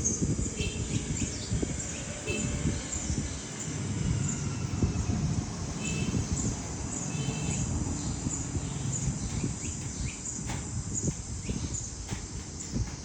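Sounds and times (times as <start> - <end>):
steady low rumbling: 0.0 - 13.0.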